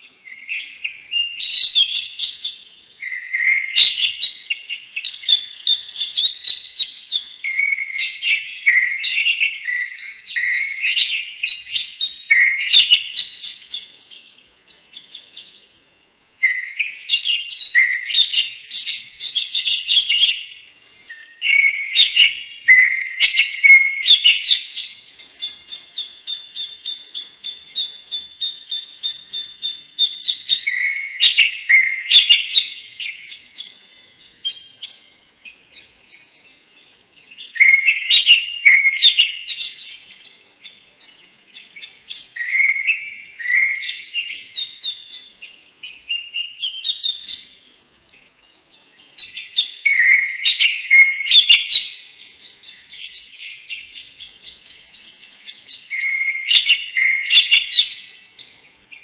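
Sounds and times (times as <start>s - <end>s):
lovebird chirping: 0.0s - 59.0s.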